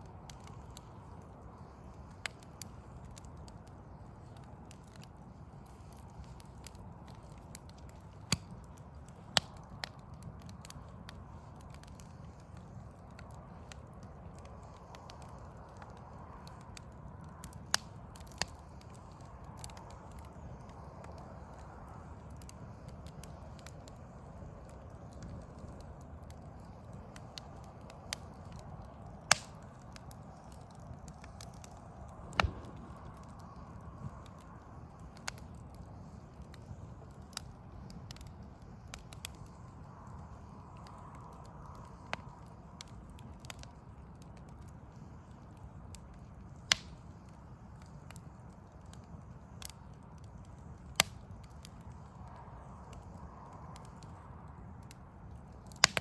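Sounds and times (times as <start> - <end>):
burning logs crackling: 0.0 - 56.0
fire low rumble: 0.0 - 56.0
sharp pops of fire: 0.0 - 56.0.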